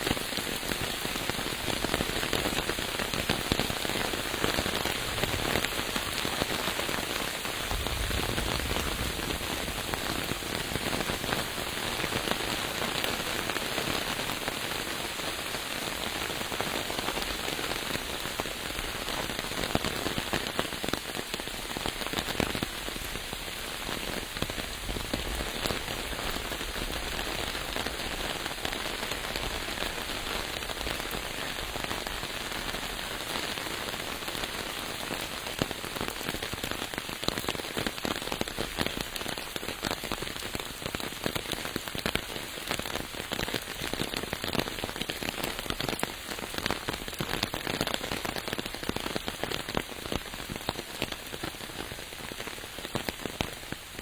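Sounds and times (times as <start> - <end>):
steady rain falling: 0.0 - 54.0
close raindrop hits: 0.1 - 54.0.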